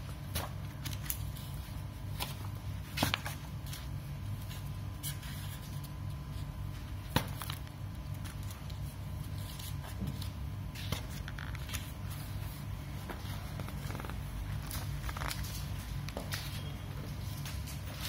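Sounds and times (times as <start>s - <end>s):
steady low hum: 0.0s - 18.0s
pages rustling: 0.2s - 18.0s.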